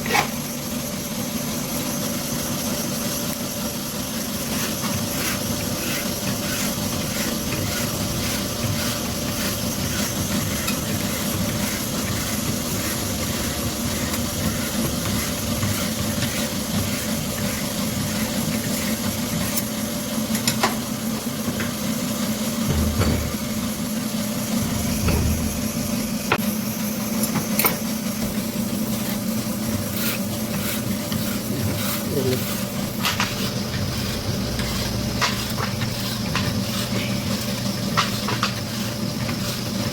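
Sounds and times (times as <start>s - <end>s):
boring machine hum and hiss: 0.0s - 39.9s.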